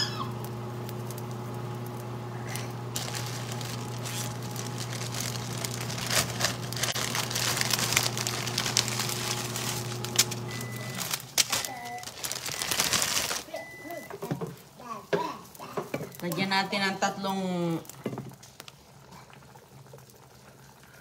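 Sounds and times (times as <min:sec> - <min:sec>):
range hood fan humming: 0:00.0 - 0:19.2
soup boiling and sizzling: 0:00.0 - 0:21.0.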